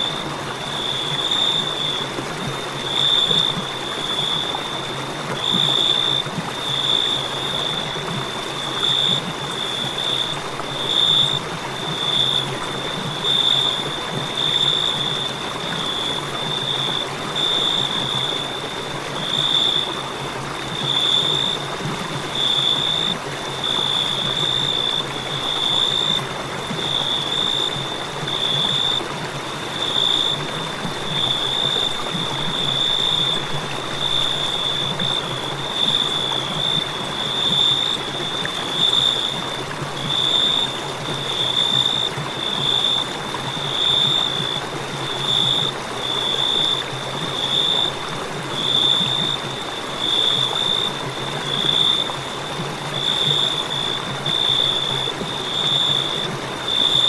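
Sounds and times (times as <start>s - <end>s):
cricket trilling: 0.0s - 57.0s.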